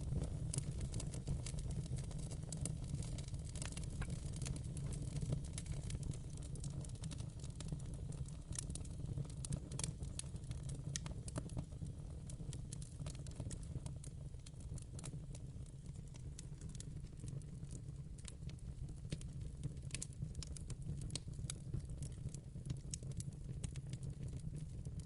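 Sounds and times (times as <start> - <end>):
fireplace fire crackling: 0.0 - 25.0.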